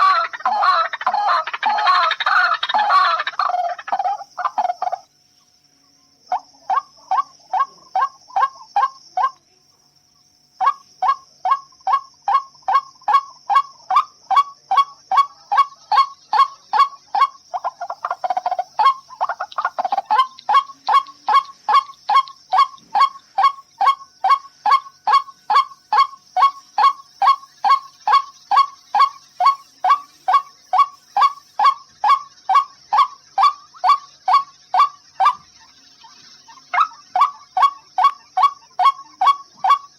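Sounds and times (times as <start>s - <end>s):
waterhen honking call: 0.0s - 5.0s, 10.6s - 39.9s.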